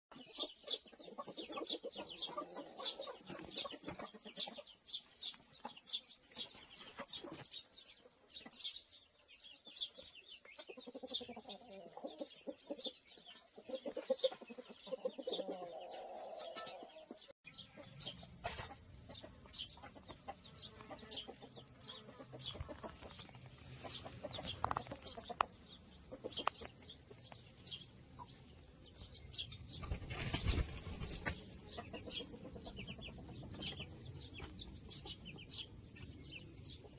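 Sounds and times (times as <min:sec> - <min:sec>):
sparrow chirping: 0:00.1 - 0:36.9.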